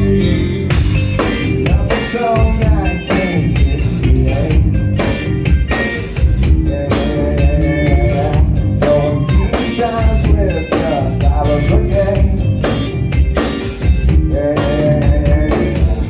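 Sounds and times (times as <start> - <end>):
drum kit: 0.0 - 16.0
electric guitar: 0.0 - 16.0
live rock music: 0.0 - 16.0.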